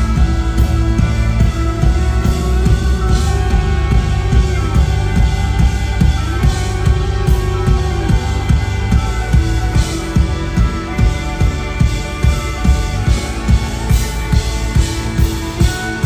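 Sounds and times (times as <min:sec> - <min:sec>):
live rock band: 0:00.0 - 0:16.0.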